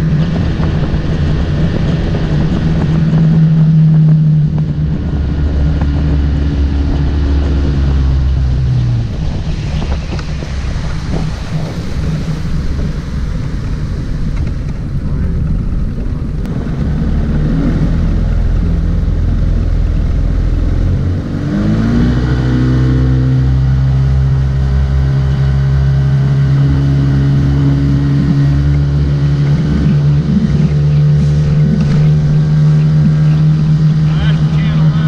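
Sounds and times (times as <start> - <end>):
motorboat engine: 0.0 - 35.0.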